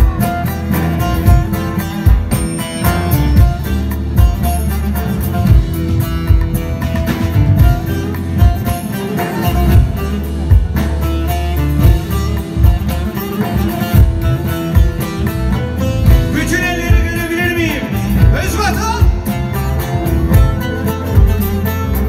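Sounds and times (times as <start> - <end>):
folk band playing: 0.0 - 22.0
steady kick drum beat: 0.0 - 22.0.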